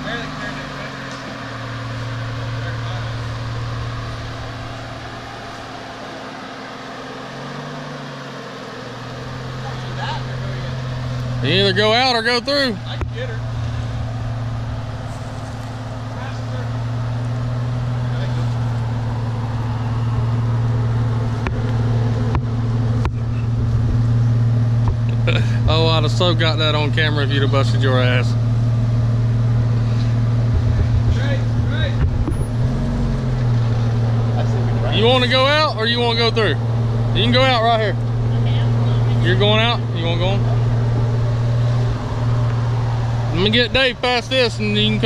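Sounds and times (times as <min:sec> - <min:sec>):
car engine running at low revs: 0:00.0 - 0:45.0
higher engine note: 0:00.0 - 0:45.0.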